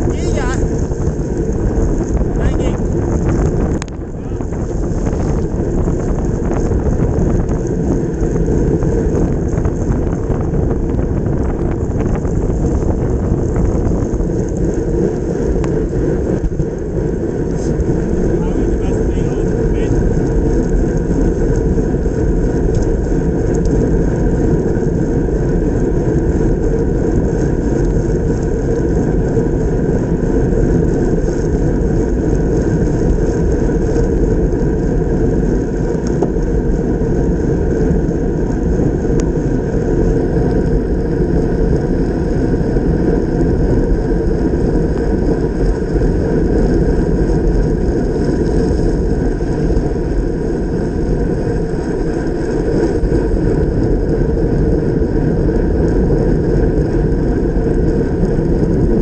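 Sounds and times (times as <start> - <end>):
tyres on wet road rumble: 0.0 - 59.0
wind rush: 0.0 - 59.0.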